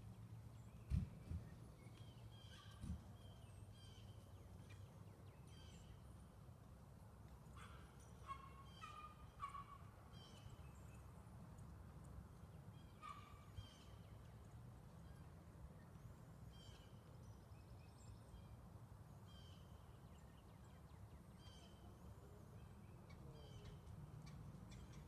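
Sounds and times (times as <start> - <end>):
faint low outdoor rumble: 0.0 - 25.0.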